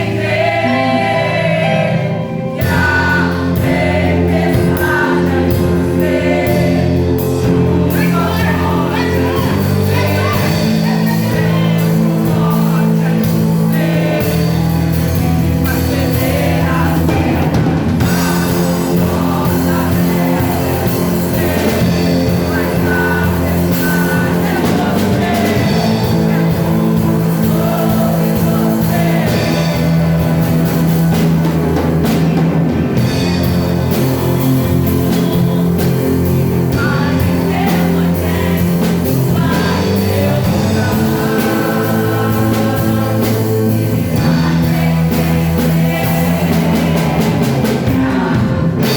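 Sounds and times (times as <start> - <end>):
person singing: 0.0 - 32.2, 33.5 - 48.9
drum kit: 0.0 - 48.9
worship band playing: 0.0 - 48.9.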